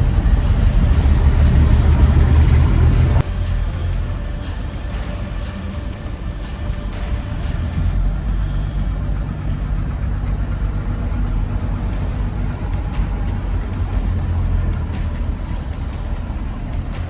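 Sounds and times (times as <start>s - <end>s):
road noise: 0.0s - 17.0s
truck engine rumbling: 0.0s - 17.0s.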